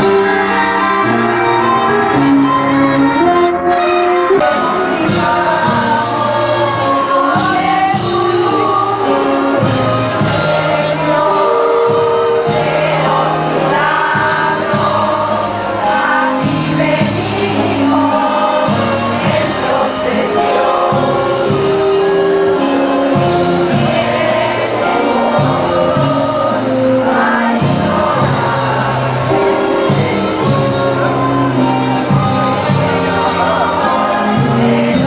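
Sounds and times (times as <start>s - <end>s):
choir singing a hymn: 0.0s - 35.0s
instrumental accompaniment: 0.0s - 35.0s.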